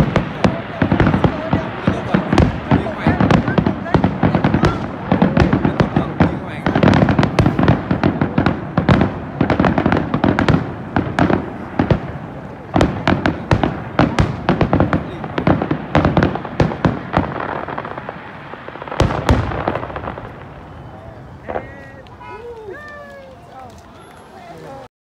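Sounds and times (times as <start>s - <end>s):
heavy firework bang: 0.0s - 22.2s
fireworks bursting and crackling: 0.0s - 24.9s.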